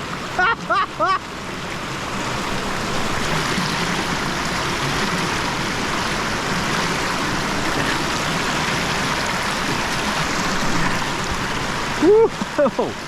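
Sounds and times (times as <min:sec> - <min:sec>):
creek splashing over rocks: 0:00.0 - 0:13.0.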